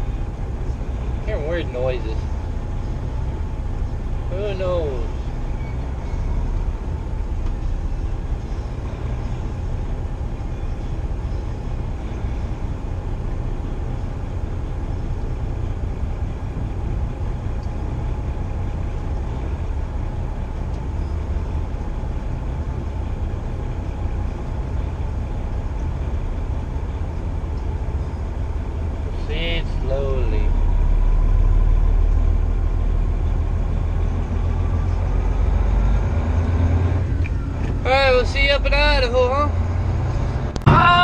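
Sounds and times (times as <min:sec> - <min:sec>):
truck diesel engine rumbling: 0:00.0 - 0:41.0.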